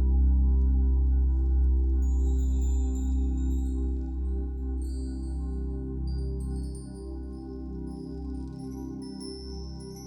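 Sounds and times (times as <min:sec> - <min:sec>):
soft ambient music: 0:00.0 - 0:10.0.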